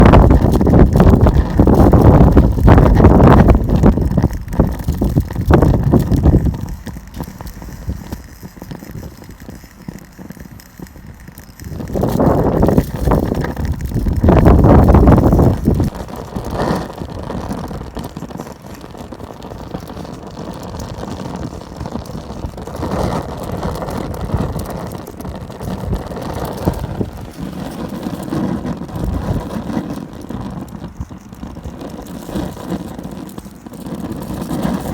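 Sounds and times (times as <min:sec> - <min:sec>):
alcohol stove burning: 0:00.0 - 0:34.9
wind buffeting microphone: 0:00.0 - 0:34.9.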